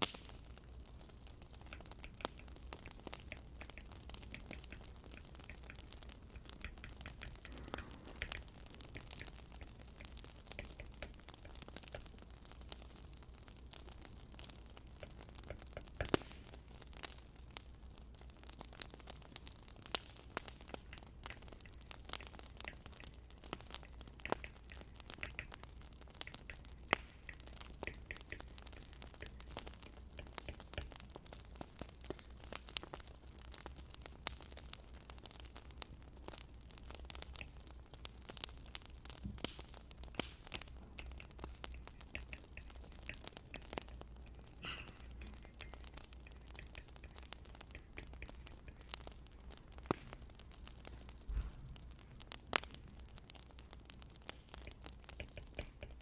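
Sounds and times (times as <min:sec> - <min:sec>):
firewood crackling and popping: 0:00.0 - 0:56.0
low steady hum: 0:00.0 - 0:56.0.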